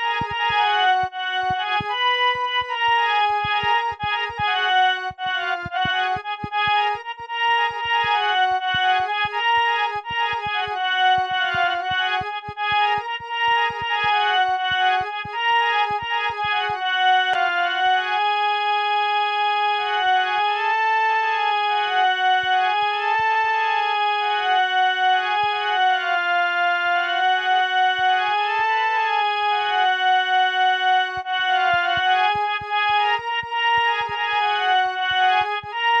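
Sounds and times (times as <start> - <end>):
keyboard melody: 0.0 - 36.0.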